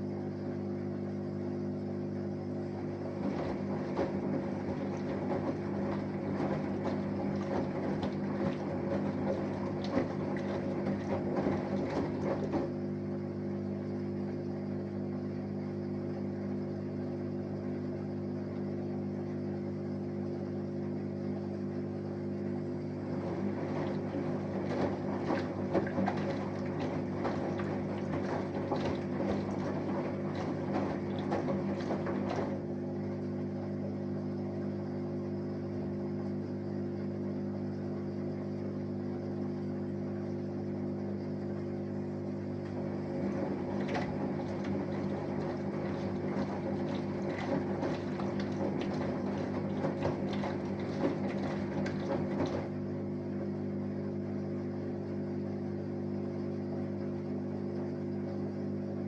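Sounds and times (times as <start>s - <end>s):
water and laundry sloshing: 0.0s - 19.4s, 21.7s - 36.6s, 38.3s - 59.0s
washing machine humming: 0.0s - 59.0s.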